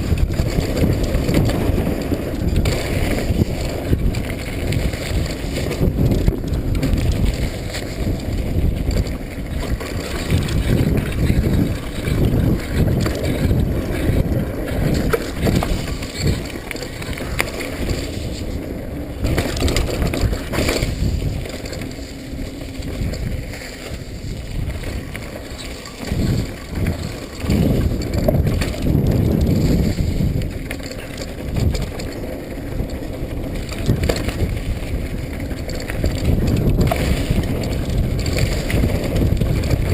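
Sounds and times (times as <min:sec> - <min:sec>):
bike rattles and knocks: 0:00.0 - 0:39.9
wind buffeting microphone: 0:00.0 - 0:39.9.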